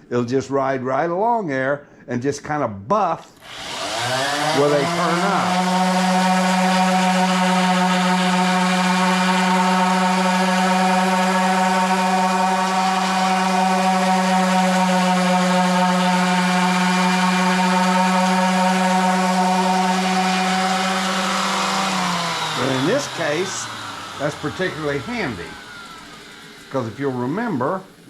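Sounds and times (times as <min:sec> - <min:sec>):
orbital sander running: 0:03.4 - 0:28.0.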